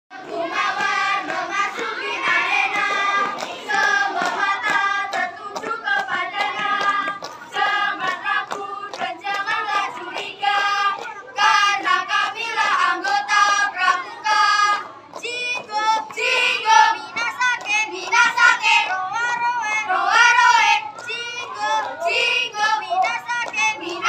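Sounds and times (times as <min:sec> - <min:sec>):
children chanting in unison: 0:00.1 - 0:24.0
hand claps: 0:00.2 - 0:24.0.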